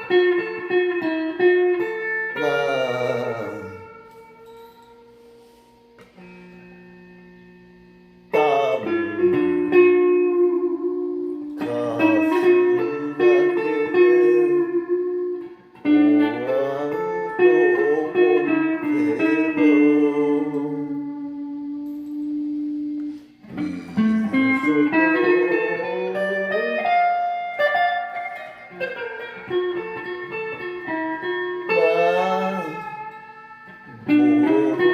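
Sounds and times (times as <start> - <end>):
plucked and sliding guitar: 0.0 - 34.9.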